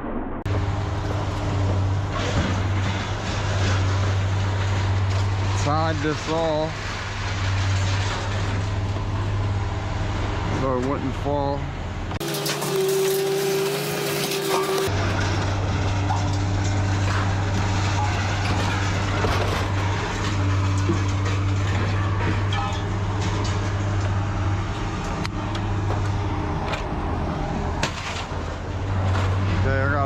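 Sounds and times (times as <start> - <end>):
road noise: 0.0 - 30.0
truck engine drone: 0.0 - 30.0.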